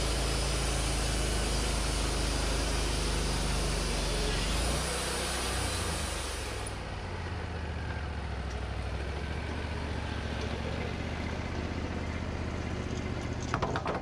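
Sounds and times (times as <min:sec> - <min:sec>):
sawmill engine hum: 0:00.0 - 0:14.0.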